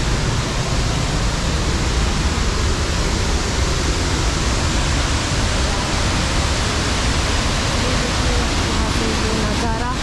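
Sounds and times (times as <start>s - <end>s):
waterfall roaring: 0.0s - 10.0s.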